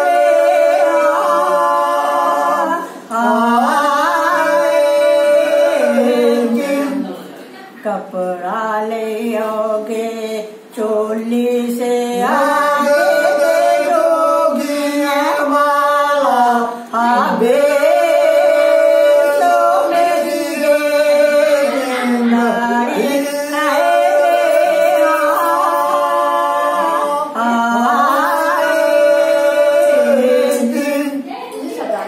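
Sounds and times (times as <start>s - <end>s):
person singing unaccompanied: 0.0s - 7.2s, 7.9s - 32.0s.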